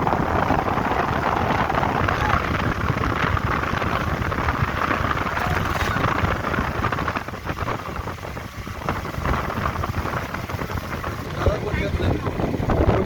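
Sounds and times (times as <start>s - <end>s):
moving vehicle on road: 0.0s - 13.0s
wind buffeting microphone: 0.0s - 13.0s.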